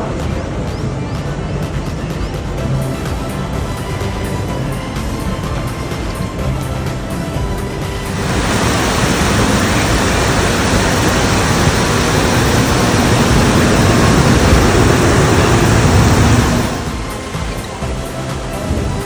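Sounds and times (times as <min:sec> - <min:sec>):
loud steady rushing noise: 0:00.0 - 0:19.0.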